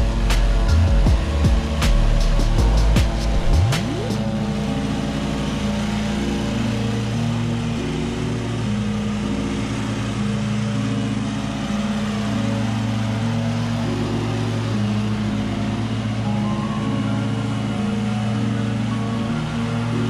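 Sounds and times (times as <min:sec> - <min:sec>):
lawn mower running: 0:00.0 - 0:20.0.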